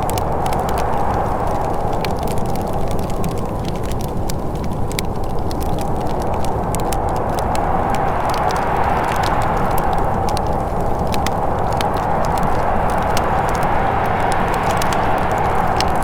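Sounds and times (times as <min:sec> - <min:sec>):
low rushing background: 0:00.0 - 0:16.0
wood fire crackling: 0:00.0 - 0:16.0.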